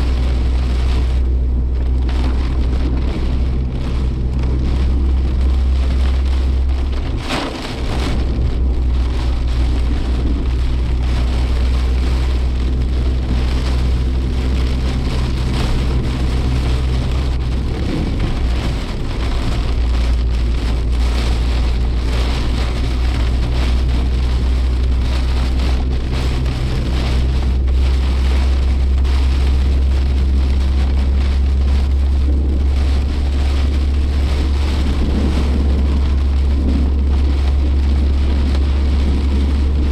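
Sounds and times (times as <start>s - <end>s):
car engine droning: 0.0s - 39.9s
rain pattering on car roof: 0.0s - 39.9s.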